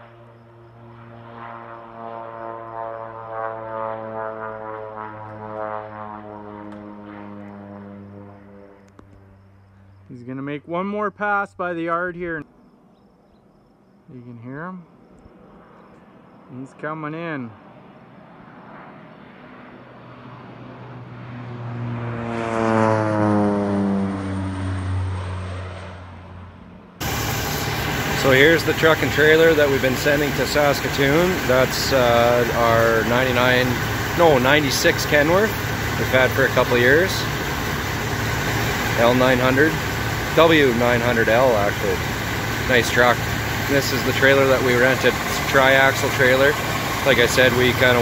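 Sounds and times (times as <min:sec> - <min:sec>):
propeller airplane droning overhead: 0:00.0 - 0:48.0.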